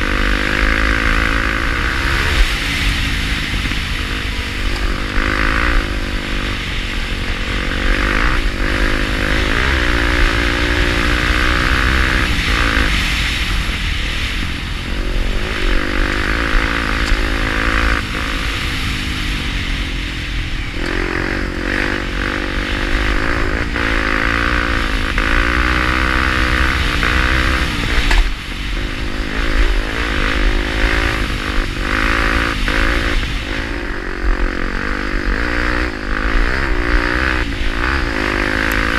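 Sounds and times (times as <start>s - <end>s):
low wind rumble: 0.0s - 38.9s
motorcycle engine revving: 0.0s - 38.9s.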